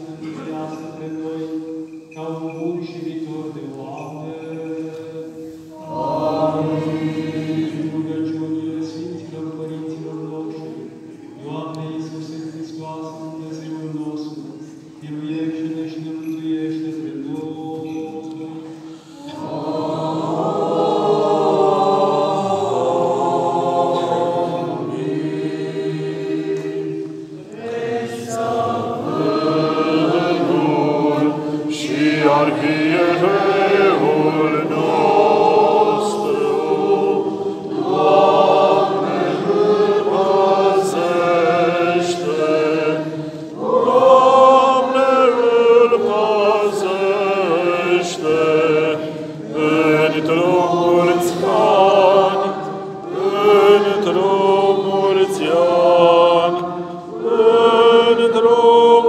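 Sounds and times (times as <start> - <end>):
choir chanting: 0.0 - 13.0, 16.6 - 59.0.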